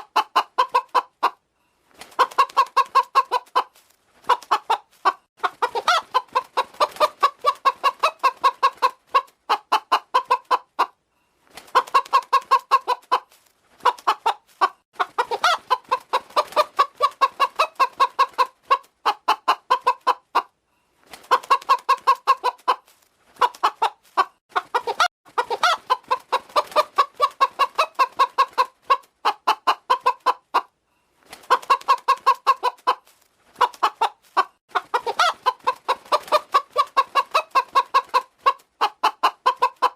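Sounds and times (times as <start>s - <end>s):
hen clucking: 0.0s - 1.5s, 2.1s - 11.0s, 11.6s - 20.6s, 21.2s - 30.8s, 31.4s - 39.9s.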